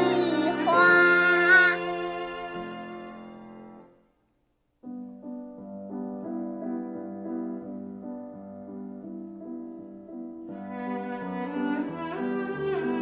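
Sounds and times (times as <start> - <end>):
slow gentle piano melody: 0.0 - 4.2, 4.8 - 13.0.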